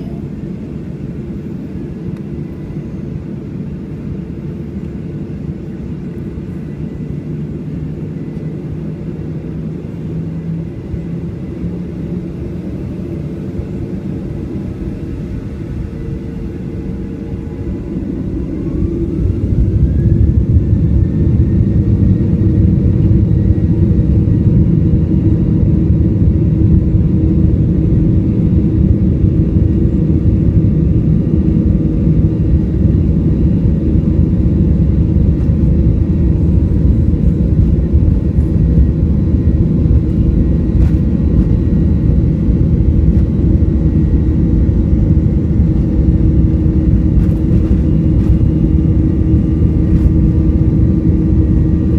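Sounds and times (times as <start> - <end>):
jet engines spooling up: 6.0 - 51.9.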